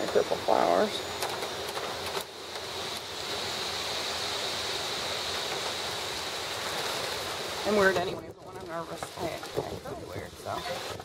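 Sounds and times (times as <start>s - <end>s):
storm wind through trees: 0.0s - 11.0s.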